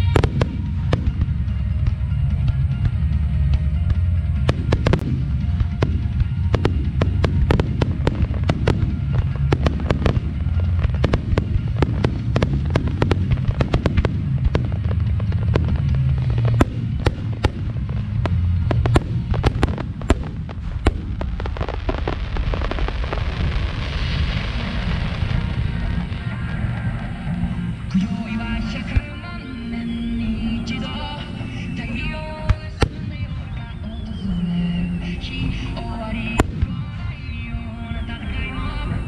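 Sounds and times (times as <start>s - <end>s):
fireworks bangs: 0.0s - 39.0s
low rumble: 0.0s - 39.0s
rising fireworks hiss: 0.0s - 39.0s.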